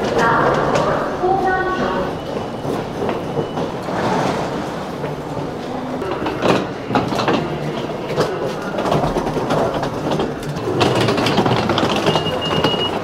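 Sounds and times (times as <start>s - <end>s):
train clatter: 0.0s - 13.0s
train rumbling: 0.0s - 13.0s.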